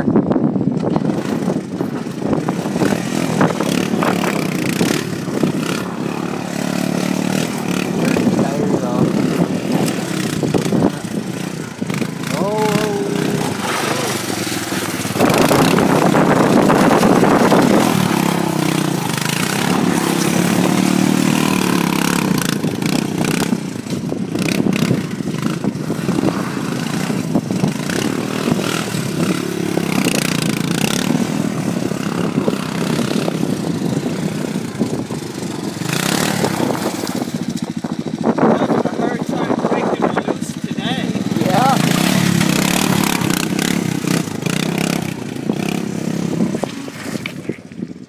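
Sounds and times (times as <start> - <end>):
atv engine revving: 0.0 - 48.0.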